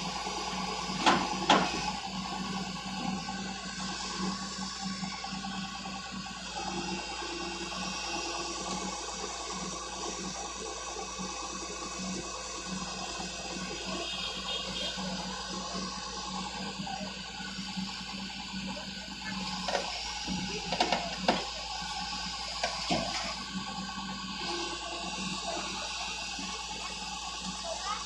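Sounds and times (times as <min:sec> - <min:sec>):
excavator diesel engine running: 0:00.0 - 0:28.0
hiss: 0:00.0 - 0:28.0.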